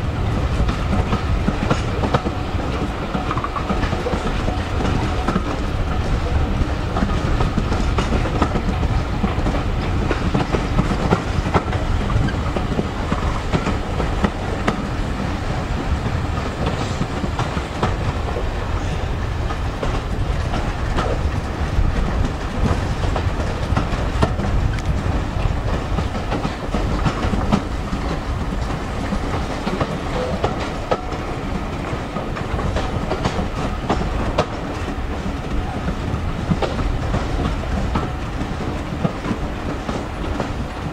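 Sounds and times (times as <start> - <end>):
train coaches rumbling on track: 0.0 - 40.9
wheels clicking over rail joints: 0.2 - 40.9.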